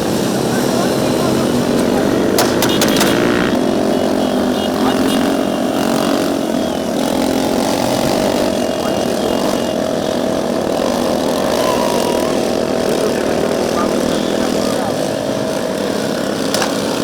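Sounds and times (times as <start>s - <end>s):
aircraft engine drone: 0.0s - 17.0s
constant whine: 0.0s - 17.0s.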